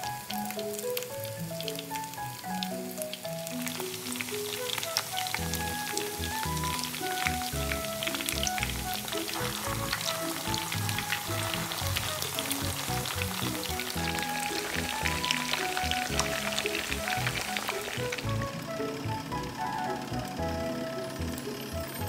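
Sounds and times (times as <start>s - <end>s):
chicken frying in hot oil: 0.0s - 21.9s
background music with melody: 0.0s - 22.0s.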